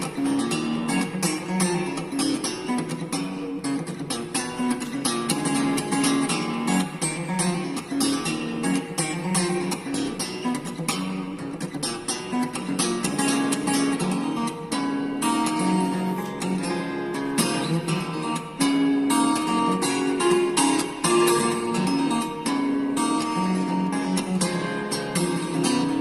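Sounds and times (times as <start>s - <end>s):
guitar music: 0.0s - 26.0s.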